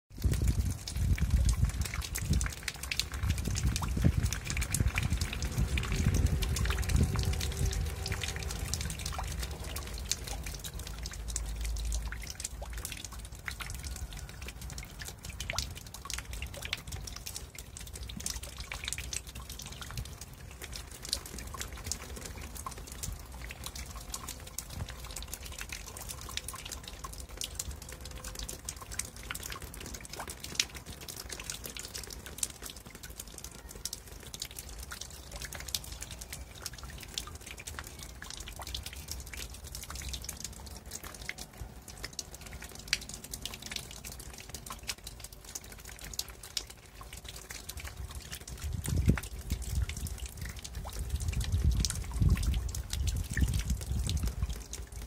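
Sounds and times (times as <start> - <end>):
water drops splashing in puddle: 0.1 - 55.0.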